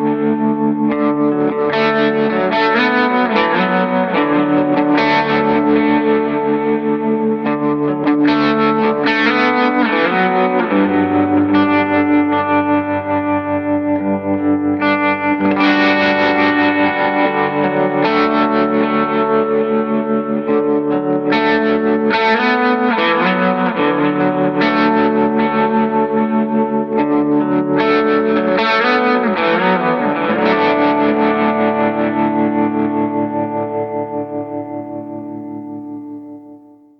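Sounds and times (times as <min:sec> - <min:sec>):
electric guitar with reverb: 0:00.0 - 0:36.9.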